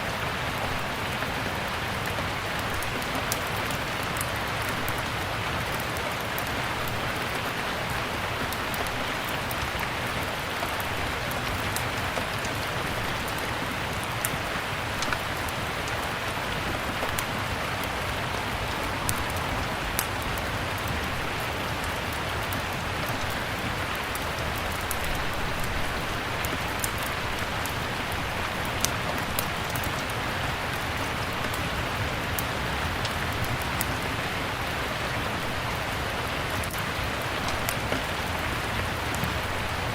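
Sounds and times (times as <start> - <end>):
steady rain falling: 0.0 - 39.9
wood fire crackling and popping: 0.2 - 34.0, 36.4 - 39.9.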